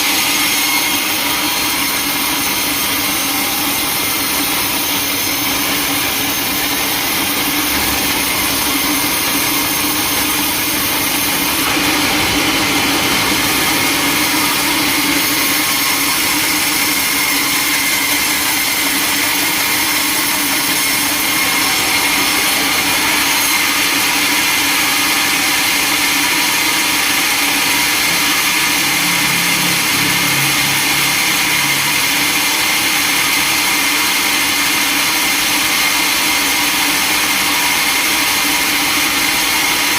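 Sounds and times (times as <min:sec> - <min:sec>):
sawmill machinery whine and hum: 0:00.0 - 0:39.9.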